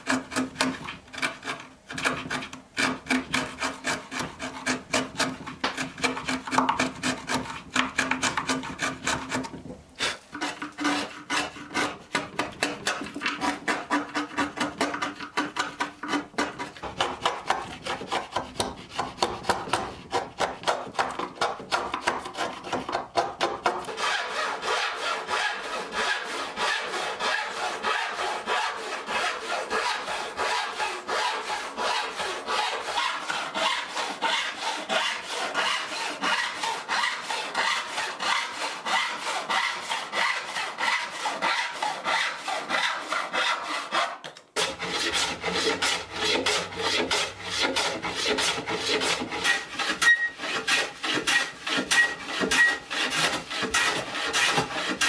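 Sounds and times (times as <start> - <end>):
chisel scraping wood: 0.0 - 55.0
handsaw cutting wood: 0.0 - 55.0.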